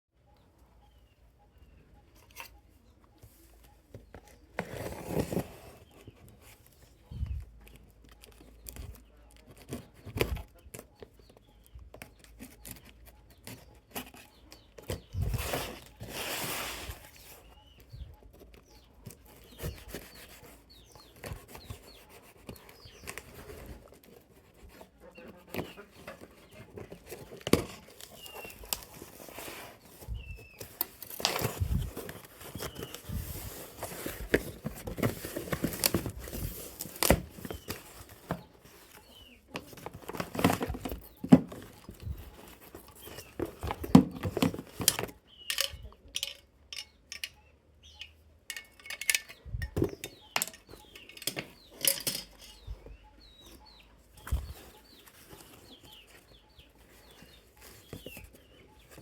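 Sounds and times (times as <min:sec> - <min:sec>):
bird chirps: 0:00.2 - 0:04.6, 0:05.8 - 0:59.0.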